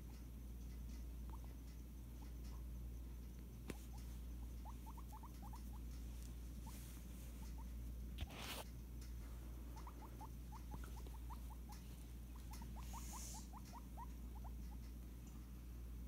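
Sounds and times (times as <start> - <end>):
guinea pig squeaking: 0.0 - 15.1.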